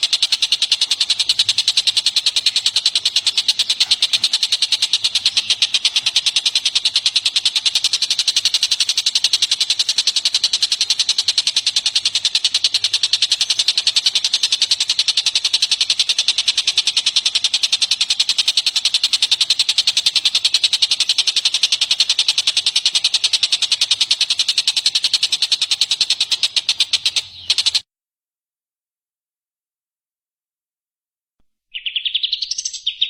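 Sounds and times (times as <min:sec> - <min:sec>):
songbird rapid high notes: 0:00.0 - 0:27.8.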